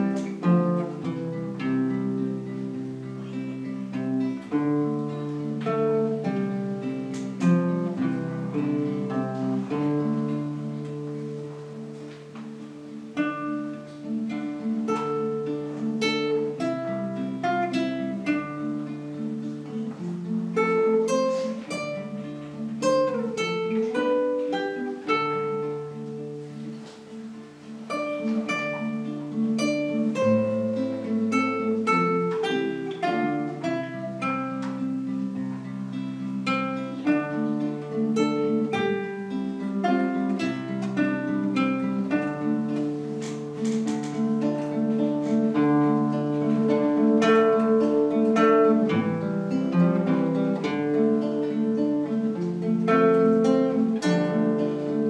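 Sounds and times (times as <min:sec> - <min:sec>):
acoustic guitar duet: 0:00.0 - 0:55.0.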